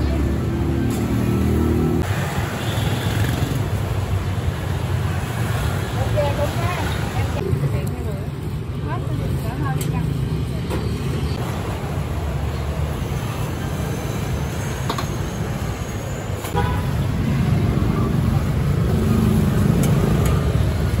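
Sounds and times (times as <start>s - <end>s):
motorbikes passing: 0.0s - 14.7s, 16.8s - 21.0s.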